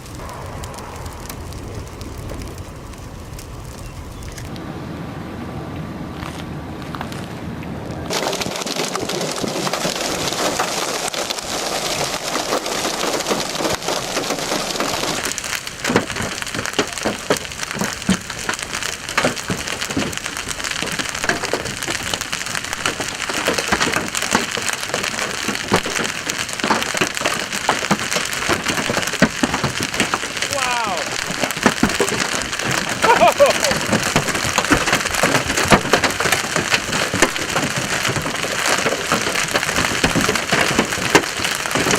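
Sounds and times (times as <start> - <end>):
hailstones striking: 0.0 - 4.6, 8.1 - 41.9
heavy rain and hail hiss: 0.0 - 5.6, 8.0 - 41.9.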